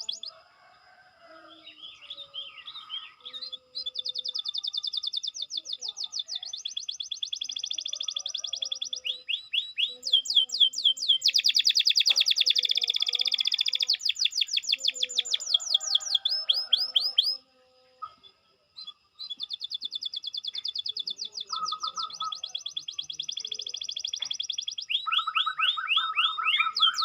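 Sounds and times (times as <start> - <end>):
canary singing in trills: 0.0 - 27.0.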